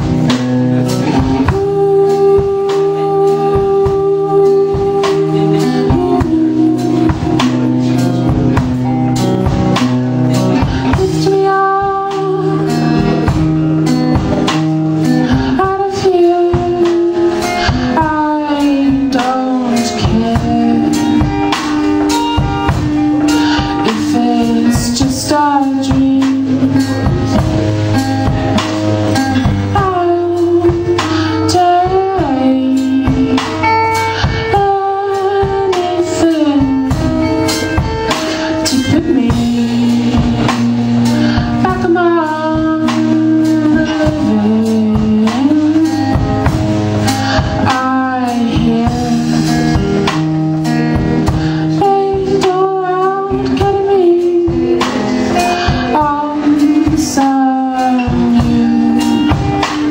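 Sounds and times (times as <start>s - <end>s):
drums: 0.0s - 59.9s
guitar: 0.0s - 59.9s
person singing: 0.0s - 59.9s.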